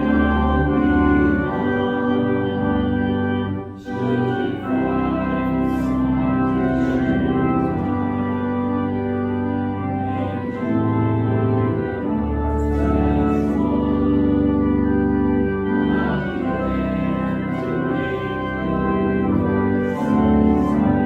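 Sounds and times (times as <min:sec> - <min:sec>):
church organ playing hymn: 0:00.0 - 0:21.0.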